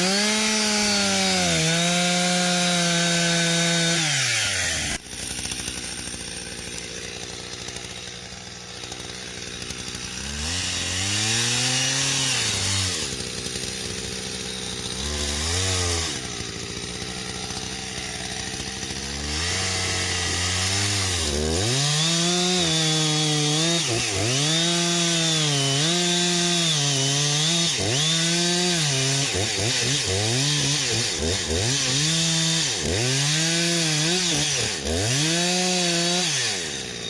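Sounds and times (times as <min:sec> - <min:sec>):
chainsaw revving: 0:00.0 - 0:37.0.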